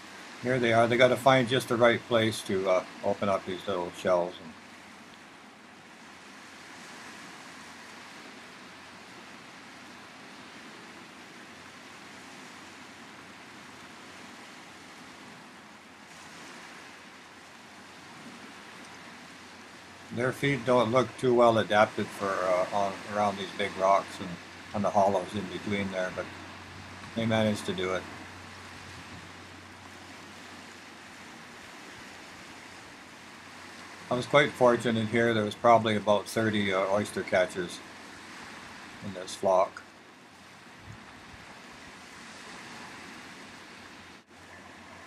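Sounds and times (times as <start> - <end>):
small waves on rocky shore: 0.0 - 45.0.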